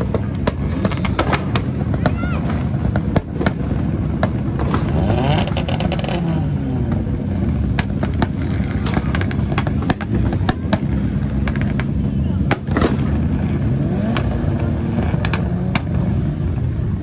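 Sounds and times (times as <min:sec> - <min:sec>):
exhaust cracks: 0:00.0 - 0:17.0
rally car engines revving: 0:00.0 - 0:17.0.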